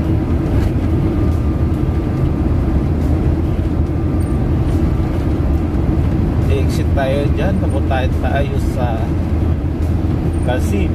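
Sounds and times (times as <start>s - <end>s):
vehicle road and engine rumble: 0.0s - 10.9s.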